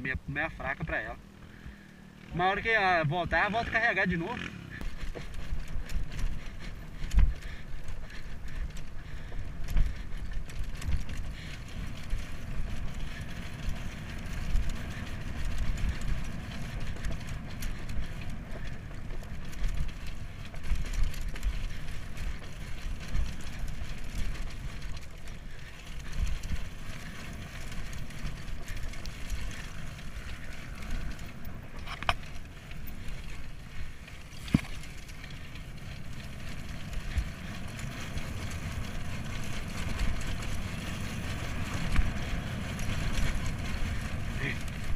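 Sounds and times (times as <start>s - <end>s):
dirt bike engine rumbling: 0.0s - 44.9s.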